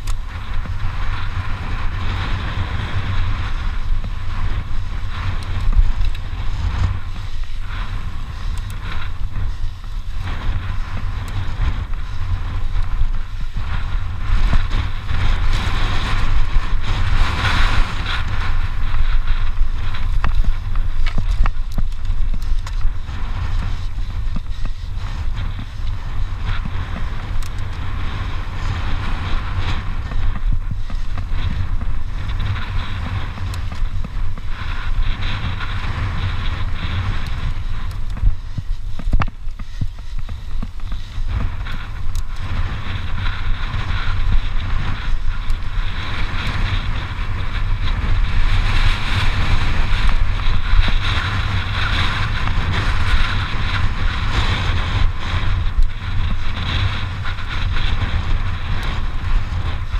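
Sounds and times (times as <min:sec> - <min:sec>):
bike clicks and rattles: 0:00.0 - 0:59.9
tyres hissing on loose dirt: 0:00.0 - 0:59.9
wind buffeting microphone: 0:00.0 - 0:59.9.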